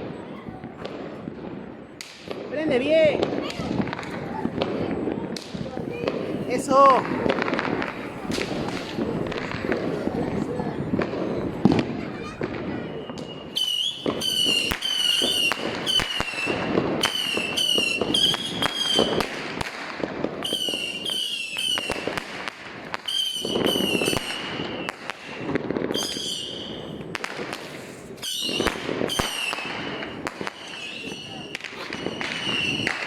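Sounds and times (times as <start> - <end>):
firecracker bangs and crackling: 0.0 - 33.0
whistling fireworks: 0.0 - 33.0.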